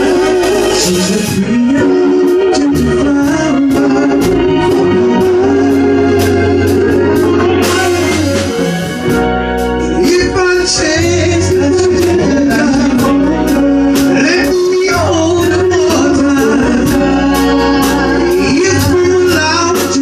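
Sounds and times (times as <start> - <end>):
male vocal group singing harmony: 0.0 - 9.1, 9.8 - 20.0
bass: 0.0 - 20.0
organ-like keyboard: 0.0 - 20.0.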